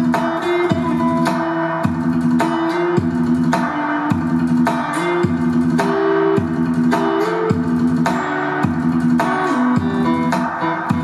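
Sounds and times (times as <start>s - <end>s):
guitar music over loudspeakers: 0.0s - 11.0s.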